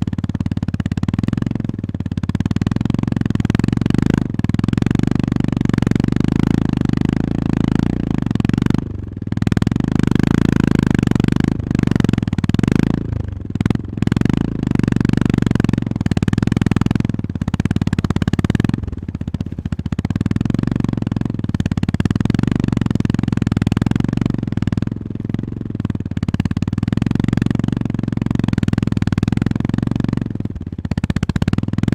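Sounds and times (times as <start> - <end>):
motorcycle engine thumping: 0.0 - 31.9.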